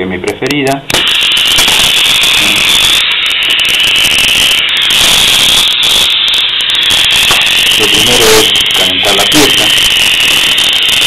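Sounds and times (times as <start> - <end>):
welding torch flame hissing: 0.3 - 11.0.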